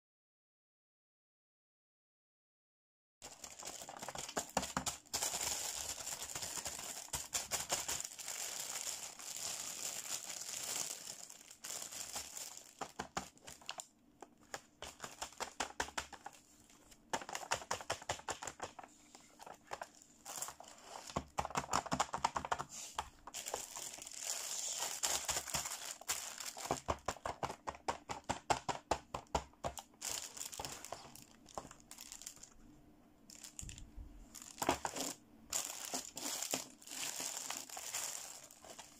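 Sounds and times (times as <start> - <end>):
plastic packaging crinkling: 3.2 - 28.4, 29.6 - 32.6, 33.3 - 38.9.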